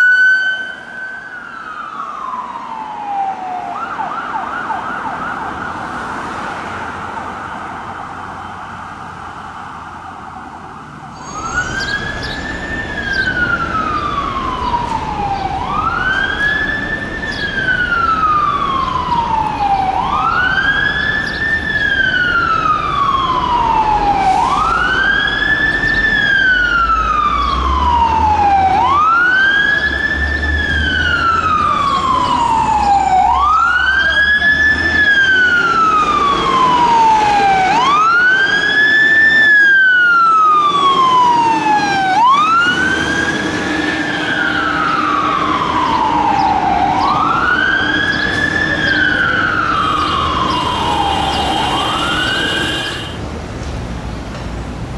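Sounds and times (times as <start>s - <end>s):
fire engine siren wailing: 0.0s - 53.2s
truck rumble and traffic: 0.0s - 54.9s.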